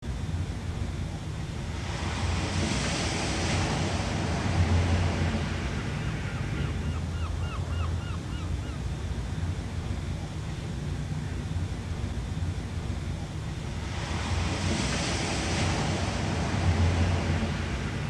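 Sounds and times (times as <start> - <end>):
low surf rumble: 0.0 - 18.0
sea waves breaking: 0.1 - 18.0.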